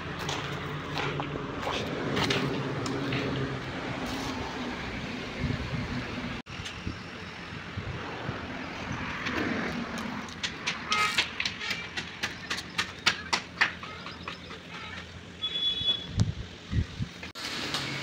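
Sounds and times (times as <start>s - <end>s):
passing vehicle engine hum: 0.0s - 15.4s
road noise: 0.0s - 18.0s.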